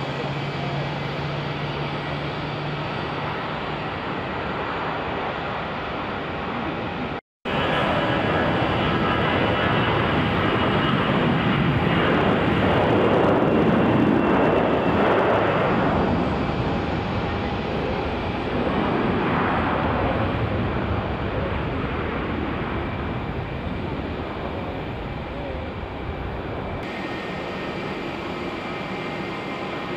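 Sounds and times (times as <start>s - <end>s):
jet engines at take-off: 0.0s - 29.9s.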